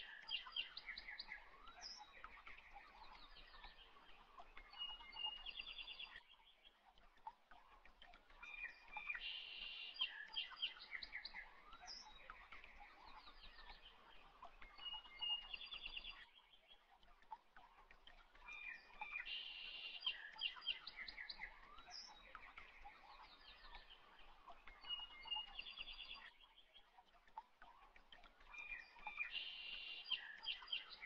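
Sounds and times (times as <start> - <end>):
faint birdsong chirps and trills: 0.0 - 31.0.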